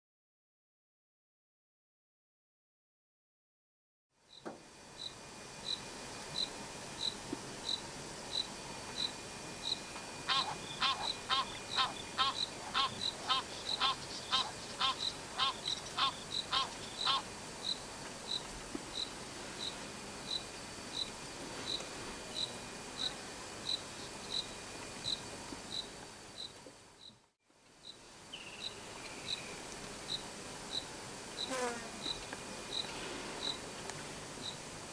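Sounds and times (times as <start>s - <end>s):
outdoor background hiss: 4.1s - 34.9s
louder fuller insect chirps: 4.3s - 27.1s, 27.8s - 33.6s.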